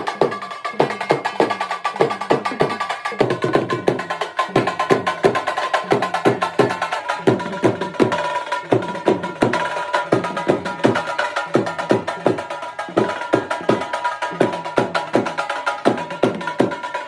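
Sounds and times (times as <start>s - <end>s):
dance music with dhol drumming: 0.0s - 17.0s.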